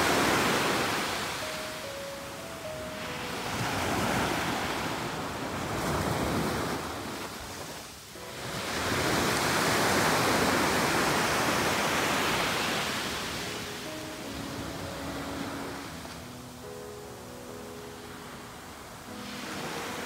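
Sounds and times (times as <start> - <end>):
small waves washing up shore: 0.0 - 20.0.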